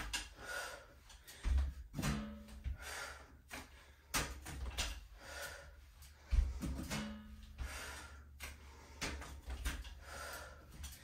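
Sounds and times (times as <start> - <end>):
person breathing hard: 0.1 - 1.9, 2.6 - 4.4, 5.0 - 11.0.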